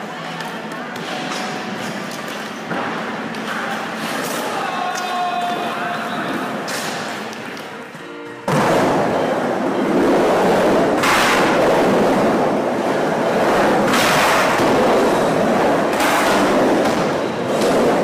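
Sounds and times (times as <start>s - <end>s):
skateboard wheels rolling: 0.0s - 18.0s.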